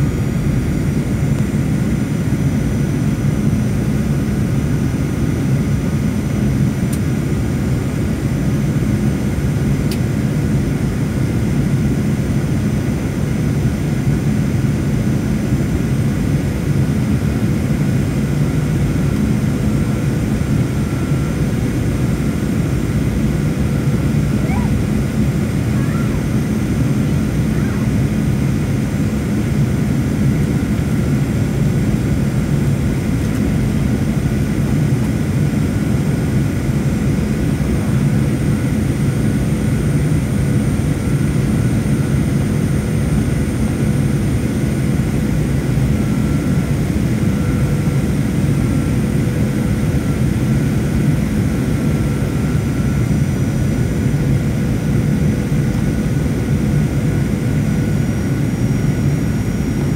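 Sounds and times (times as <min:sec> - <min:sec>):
faint steady whine: 0:00.0 - 0:07.3, 0:16.6 - 0:59.9
jet engine and airflow rush: 0:00.0 - 0:59.9.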